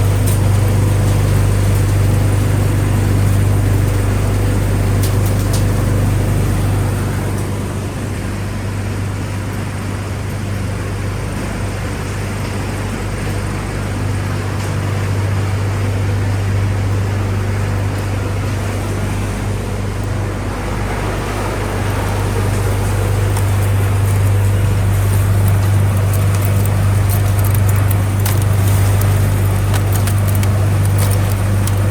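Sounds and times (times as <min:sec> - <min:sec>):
industrial machinery humming: 0:00.0 - 0:31.9.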